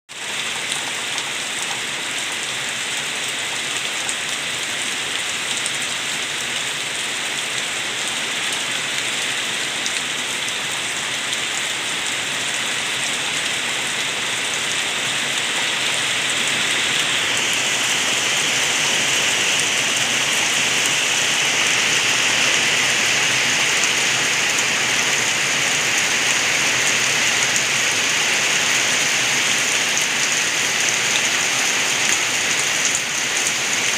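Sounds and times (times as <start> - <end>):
rain falling: 0.1 - 33.9
rainwater gurgling: 0.1 - 33.9.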